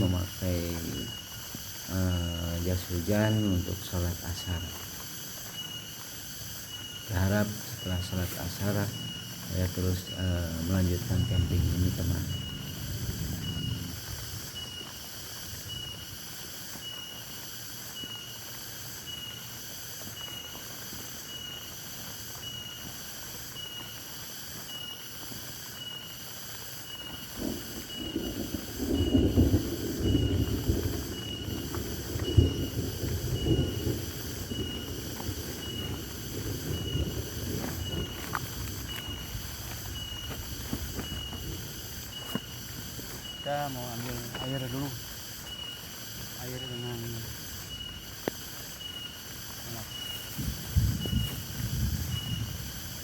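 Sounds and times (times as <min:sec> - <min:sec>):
insect chorus pulsing: 0:00.0 - 0:53.0.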